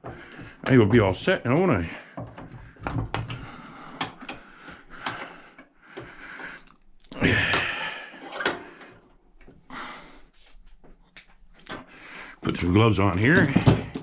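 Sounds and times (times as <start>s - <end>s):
parts clicking and knocking: 0.0s - 9.6s, 10.8s - 14.0s.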